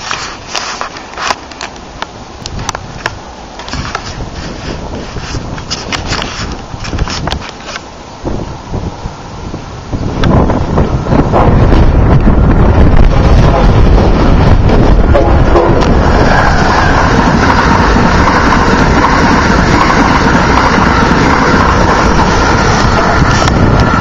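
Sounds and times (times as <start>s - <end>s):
high-speed train passing: 0.0s - 24.0s.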